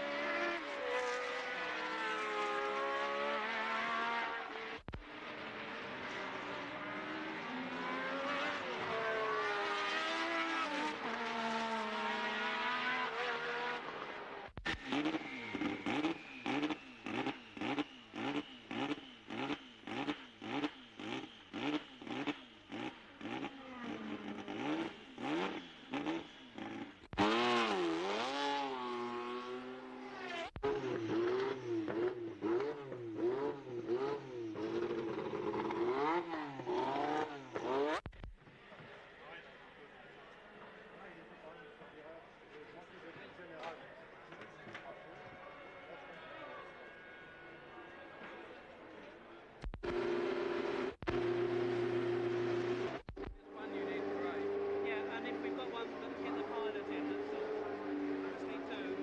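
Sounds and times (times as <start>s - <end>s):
racing car engines revving: 0.0s - 59.0s.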